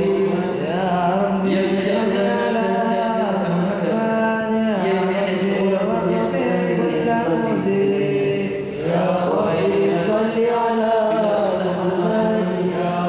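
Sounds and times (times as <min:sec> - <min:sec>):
men chanting through microphones: 0:00.0 - 0:13.0.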